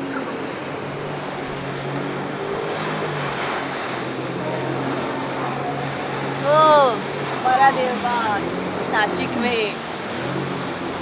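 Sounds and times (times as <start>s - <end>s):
motorboat engine humming: 0.0s - 11.0s
water rushing: 0.0s - 11.0s.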